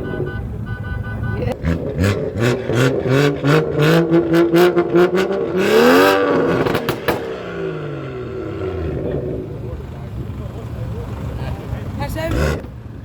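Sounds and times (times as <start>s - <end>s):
car engine revving: 0.0s - 13.0s
car exhaust crackling and popping: 0.0s - 13.0s.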